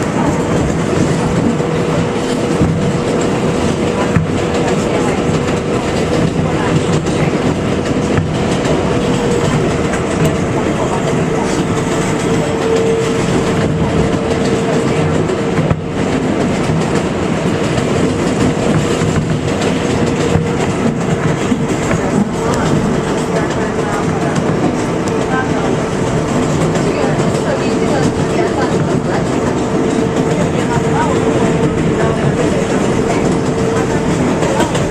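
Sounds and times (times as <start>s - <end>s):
clickety-clack of rail joints: 0.0s - 34.9s
train wheels rumbling on rails: 0.0s - 34.9s.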